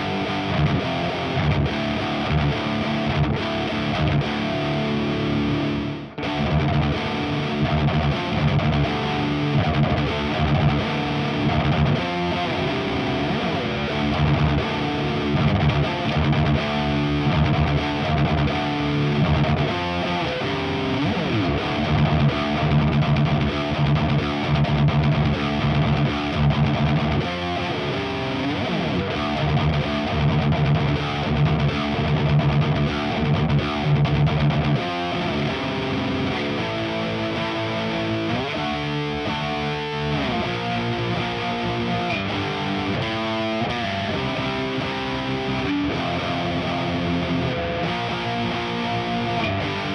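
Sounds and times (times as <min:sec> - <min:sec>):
distorted electric guitar riffs: 0:00.0 - 0:49.9.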